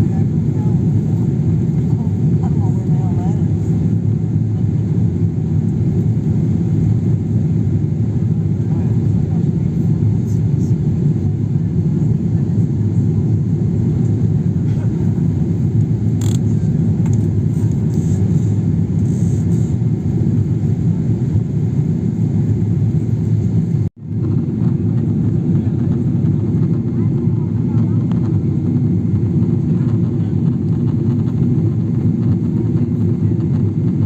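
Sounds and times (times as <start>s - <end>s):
jet engine rumble in cabin: 0.0s - 34.0s.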